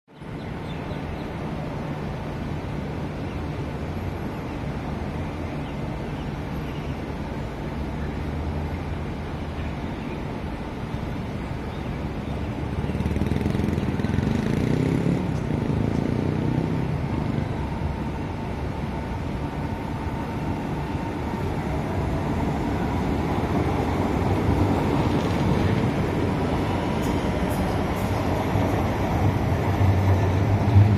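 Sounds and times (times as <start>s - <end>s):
low train rumble: 0.1s - 30.9s.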